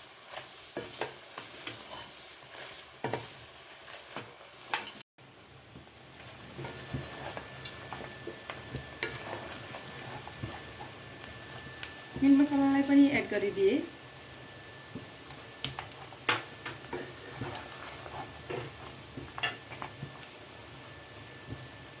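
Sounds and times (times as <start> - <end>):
chicken and onions sizzling: 0.0 - 22.0.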